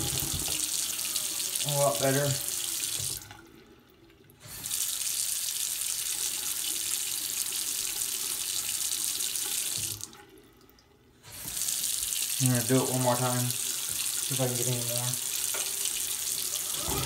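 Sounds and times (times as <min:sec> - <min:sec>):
tap water running into sink: 0:00.0 - 0:10.4, 0:11.3 - 0:17.0.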